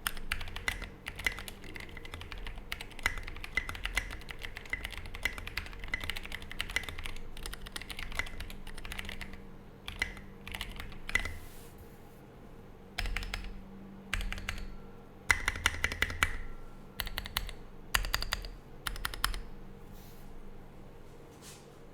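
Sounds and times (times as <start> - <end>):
mechanical keyboard typing: 0.0 - 11.4, 13.0 - 19.5.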